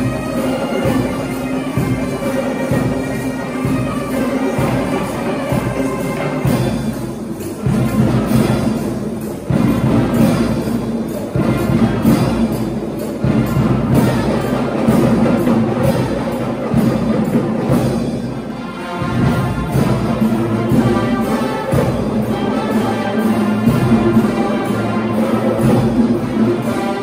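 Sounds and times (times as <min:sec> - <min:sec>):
drummers drumming: 0:00.0 - 0:27.0
military band with brass: 0:00.0 - 0:27.0.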